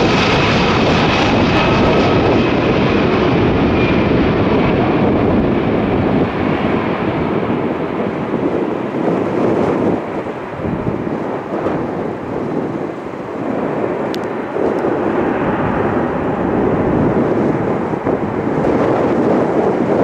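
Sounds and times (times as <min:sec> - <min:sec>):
jet engines rumbling: 0:00.0 - 0:20.0
wind buffeting microphone: 0:00.0 - 0:20.0.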